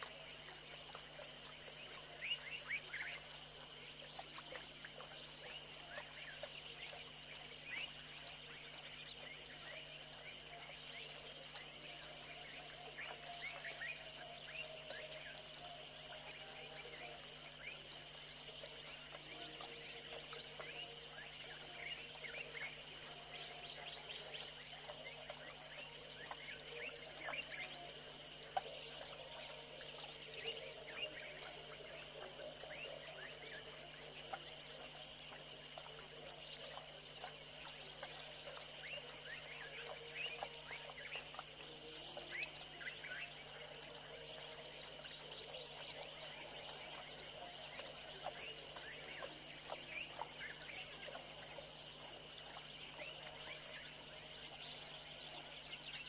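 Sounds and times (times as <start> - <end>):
crickets trilling: 0.0 - 56.0
faint low hum: 0.0 - 56.0
insect chirps: 0.0 - 56.0.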